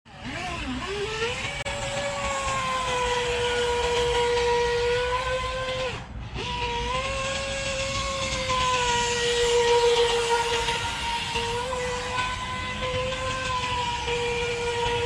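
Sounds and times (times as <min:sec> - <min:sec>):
electric motor whining: 0:00.1 - 0:15.0
wind: 0:00.1 - 0:15.0.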